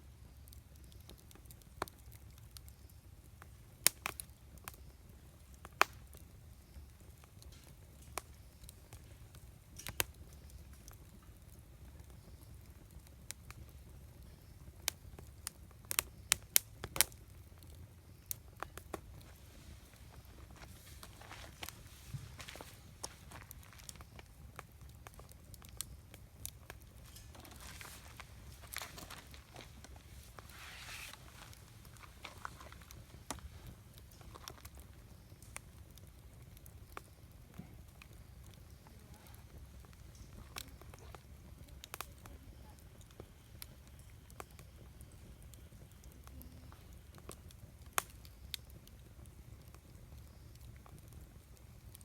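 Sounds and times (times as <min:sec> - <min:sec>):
campfire wood popping: 0:00.0 - 0:52.0
low fire rumble: 0:00.0 - 0:52.0.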